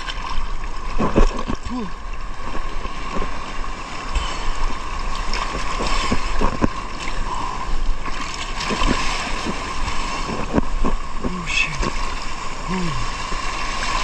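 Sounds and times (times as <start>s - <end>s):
steady rushing water: 0.0s - 14.0s
water splashing and sloshing: 0.0s - 14.0s.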